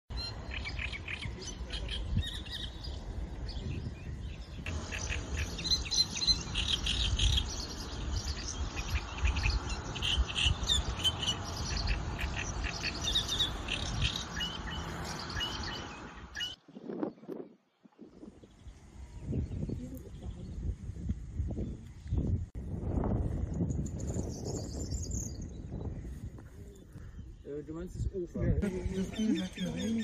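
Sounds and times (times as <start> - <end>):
warbler singing: 0.1 - 22.4, 23.4 - 30.0.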